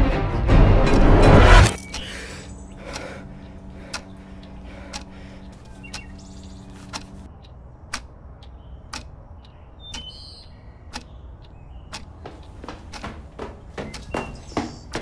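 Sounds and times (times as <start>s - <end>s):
clock ticking: 2.7s - 15.0s.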